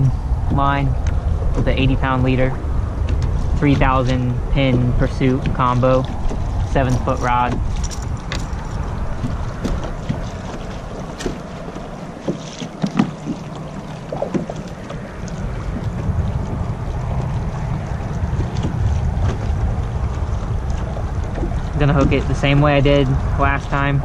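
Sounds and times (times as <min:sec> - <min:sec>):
water moving against kayak: 0:00.0 - 0:24.0
wind buffeting microphone: 0:00.0 - 0:24.0.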